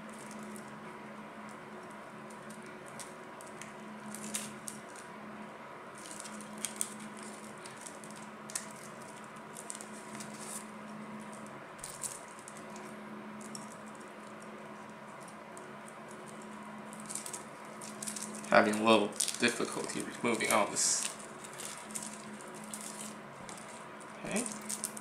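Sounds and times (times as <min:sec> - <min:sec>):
plastic wrap crinkling: 0:00.0 - 0:00.8, 0:01.4 - 0:05.1, 0:05.9 - 0:25.0
faint steady hum: 0:00.0 - 0:25.0.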